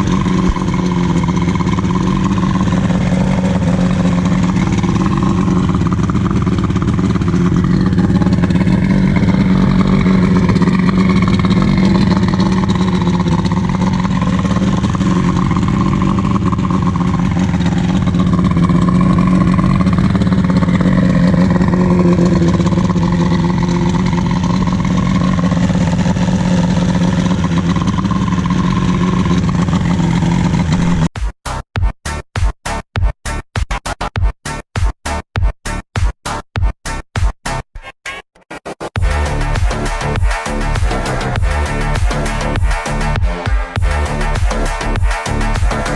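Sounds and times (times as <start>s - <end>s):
engine running steadily: 0.0s - 31.1s, 39.0s - 45.9s.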